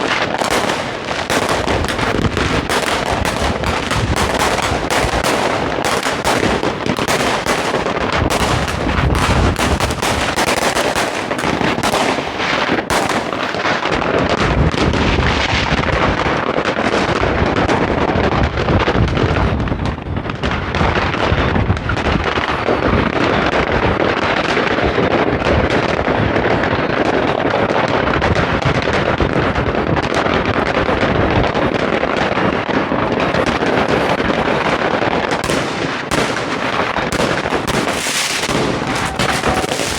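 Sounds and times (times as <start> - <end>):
deep firework booms: 0.0 - 39.9
firecrackers crackling: 0.0 - 39.9.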